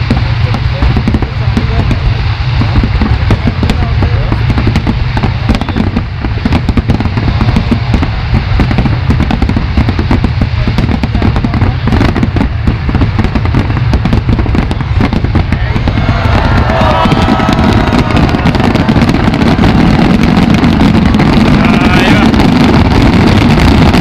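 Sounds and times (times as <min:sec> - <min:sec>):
deep rumble: 0:00.0 - 0:24.0
fireworks bangs and crackles: 0:00.0 - 0:24.0.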